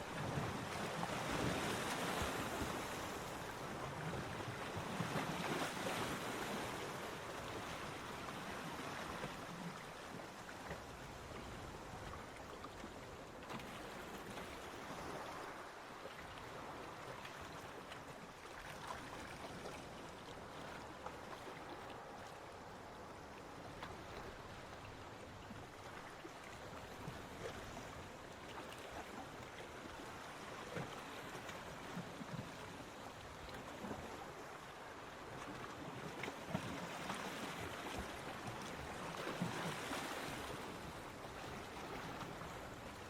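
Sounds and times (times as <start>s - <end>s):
gentle waves washing on beach: 0.0s - 43.0s.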